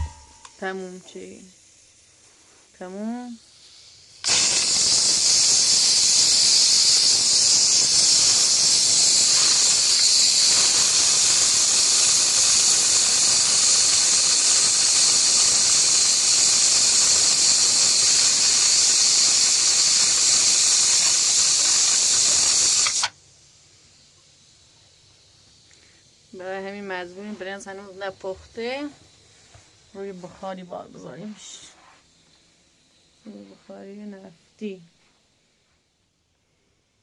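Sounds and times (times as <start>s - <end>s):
loud hiss of escaping gas: 0.0s - 33.9s.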